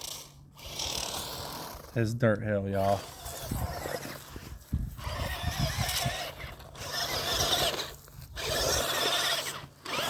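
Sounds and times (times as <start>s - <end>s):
electric motor whining: 0.0s - 2.0s, 2.8s - 10.0s
tyres churning dirt: 0.0s - 10.0s.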